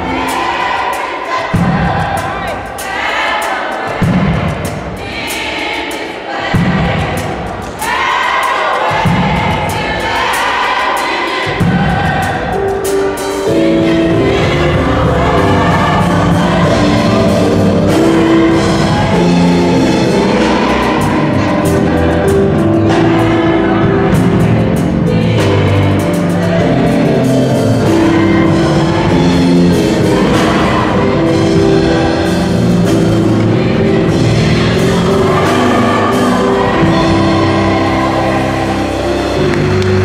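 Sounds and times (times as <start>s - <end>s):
choir singing gospel song: 0.0s - 40.0s
live band accompaniment: 0.0s - 40.0s.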